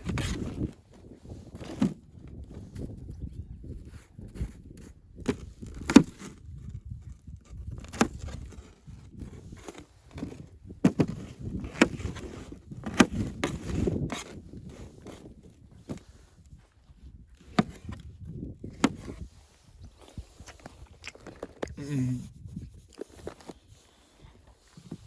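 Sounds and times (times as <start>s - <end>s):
low rustling handling noise: 0.0s - 25.0s.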